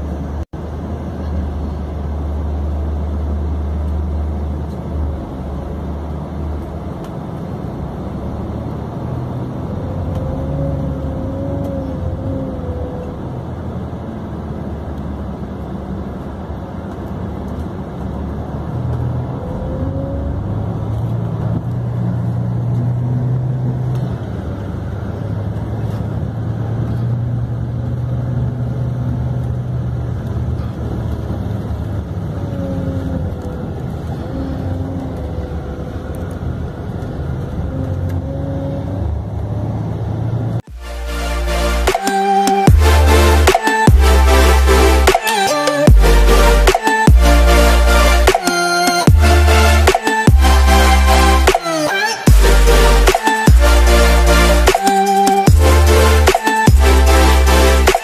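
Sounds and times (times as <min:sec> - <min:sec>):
bus engine and road hum: 0:00.0 - 0:58.0.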